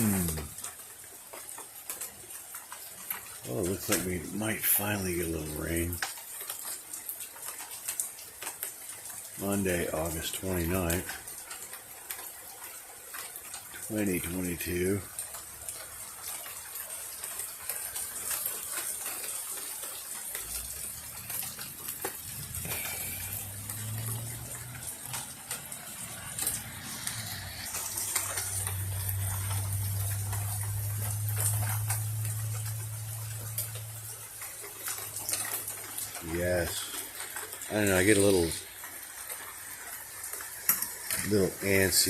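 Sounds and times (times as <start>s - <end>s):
light rain hissing: 0.0s - 42.0s
rain ticks: 0.0s - 42.0s.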